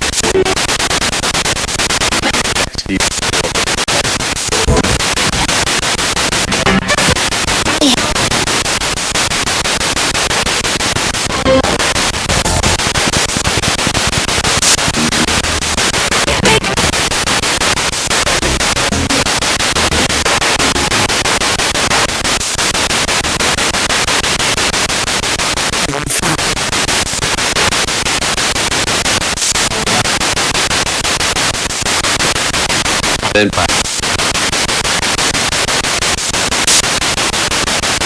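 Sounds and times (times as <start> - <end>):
radio static sweeping stations: 0.0 - 38.0.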